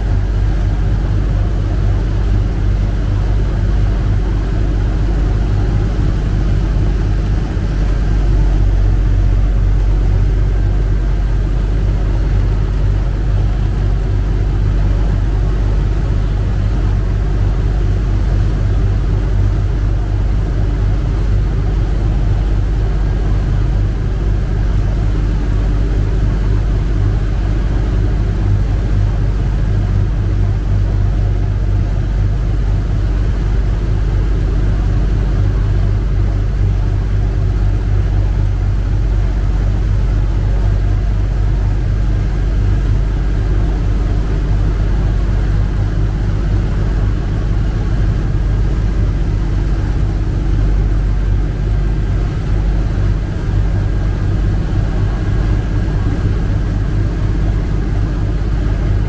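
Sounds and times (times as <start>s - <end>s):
boat diesel engine drone: 0.0s - 59.0s
wind: 0.0s - 59.0s.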